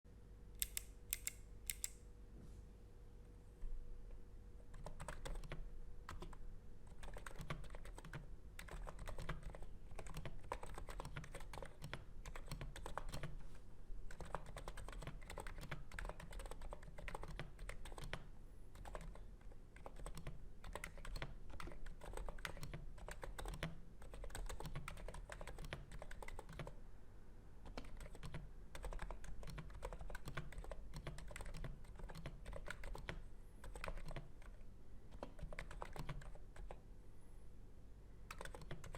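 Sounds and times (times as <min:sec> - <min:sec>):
fast keyboard typing: 0:04.6 - 0:13.4, 0:14.1 - 0:26.8, 0:27.6 - 0:36.8, 0:38.3 - 0:38.9.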